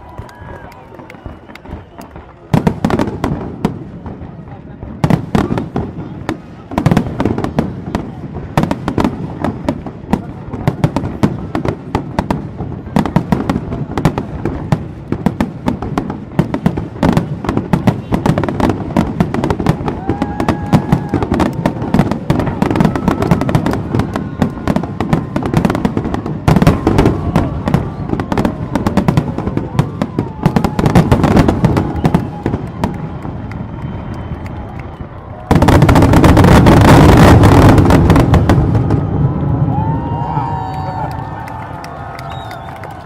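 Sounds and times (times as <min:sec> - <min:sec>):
fireworks bursting and crackling: 0:00.0 - 0:43.0
high whistling fireworks: 0:00.0 - 0:43.0.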